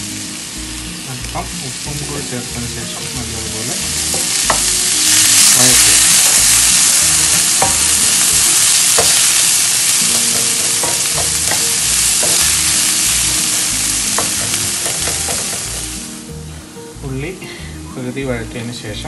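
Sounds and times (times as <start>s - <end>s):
onions sizzling in hot oil: 0.0s - 16.5s.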